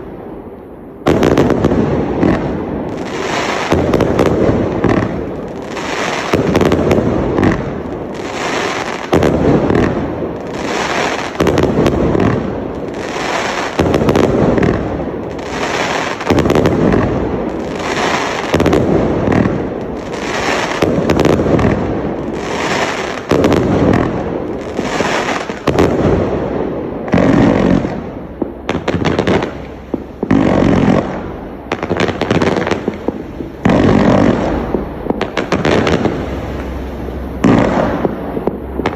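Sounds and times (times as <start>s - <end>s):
fireworks bangs: 0.0s - 38.9s
fireworks cracks and crackle: 0.0s - 38.9s.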